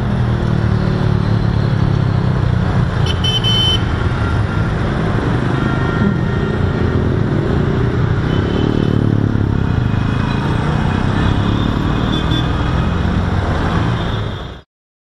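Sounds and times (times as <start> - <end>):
road noise: 0.0 - 14.6.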